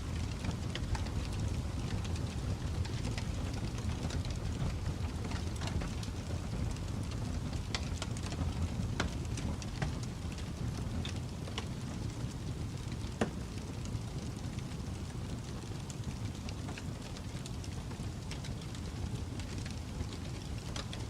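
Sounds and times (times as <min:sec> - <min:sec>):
fire crackling and popping: 0:00.0 - 0:21.0
wood fire rumbling: 0:00.0 - 0:21.0.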